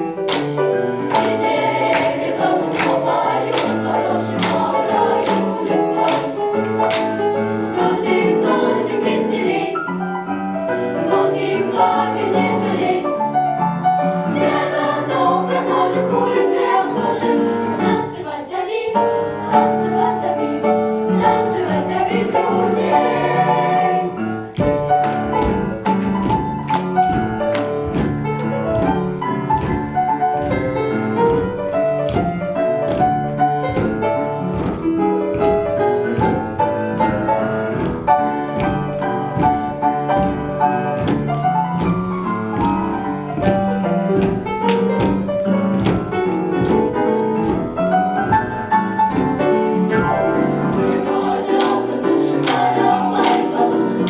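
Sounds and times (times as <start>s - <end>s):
choir singing: 0.0s - 25.6s, 35.4s - 41.9s, 42.6s - 54.0s
boogie-woogie piano: 0.0s - 54.0s.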